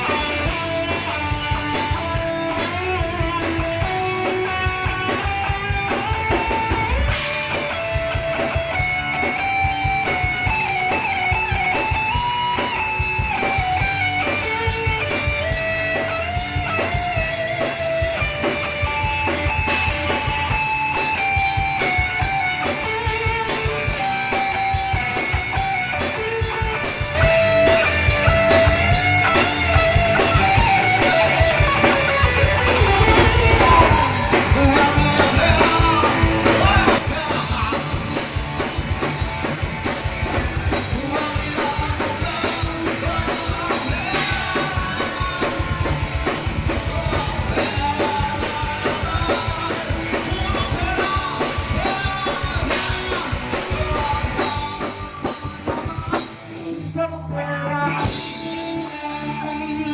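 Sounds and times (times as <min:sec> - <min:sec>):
drums: 0:00.0 - 0:59.9
electric guitar lead with bent notes: 0:00.0 - 0:59.9.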